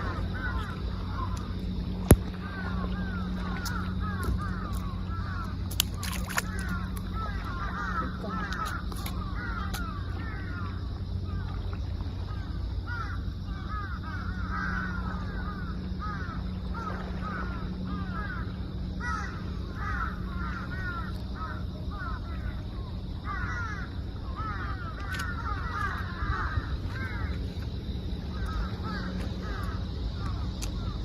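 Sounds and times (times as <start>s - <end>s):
steady low hum: 0.0s - 31.0s
flock of birds calling: 2.4s - 11.4s, 12.3s - 22.6s, 23.2s - 31.0s.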